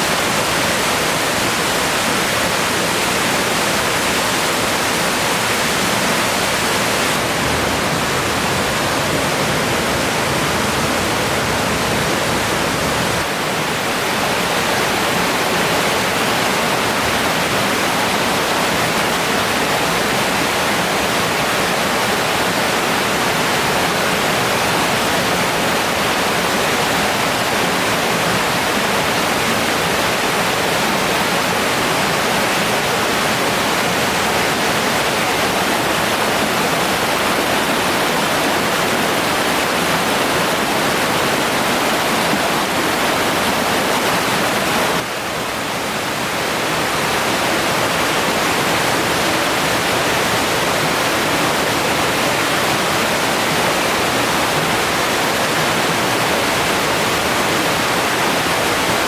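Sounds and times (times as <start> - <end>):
flowing river water: 0.0 - 59.0.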